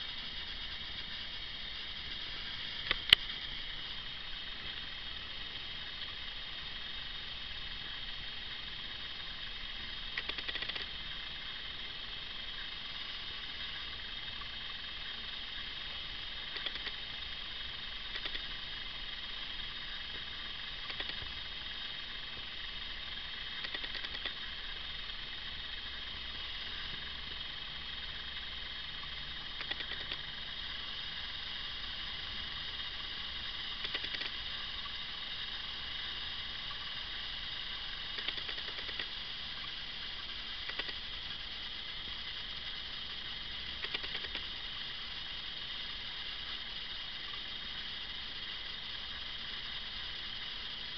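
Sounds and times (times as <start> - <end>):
camcorder mechanism hiss and whine: 0.0 - 50.9.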